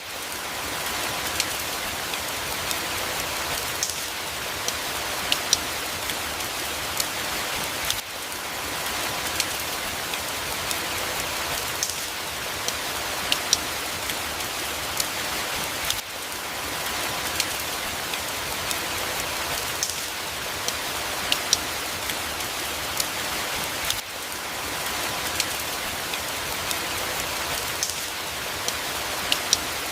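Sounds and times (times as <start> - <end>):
steady rain hissing: 0.0 - 29.9
raindrops tapping: 0.3 - 29.9.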